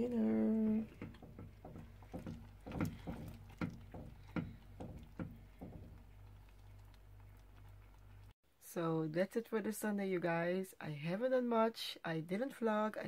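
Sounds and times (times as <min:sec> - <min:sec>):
faint low hum: 0:00.0 - 0:10.6.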